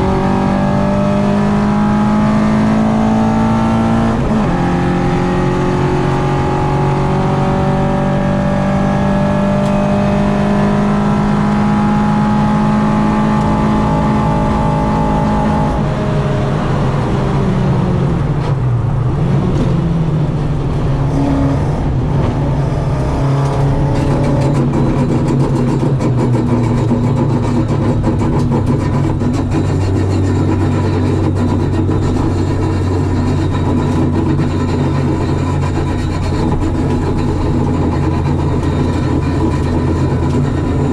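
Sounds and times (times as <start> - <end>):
car engine revving high: 0.0 - 18.4, 19.0 - 40.9.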